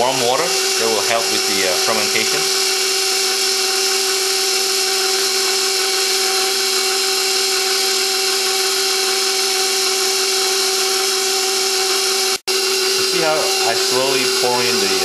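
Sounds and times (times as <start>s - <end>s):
stand mixer motor whining: 0.0s - 15.0s.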